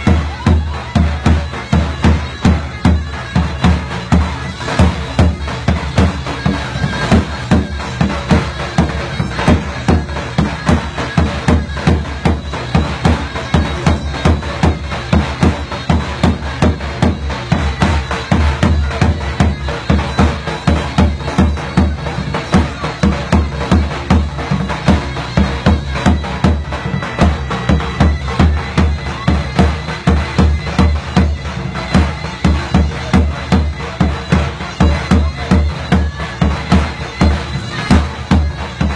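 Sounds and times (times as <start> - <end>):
reedy zurna melody: 0.0 - 38.9.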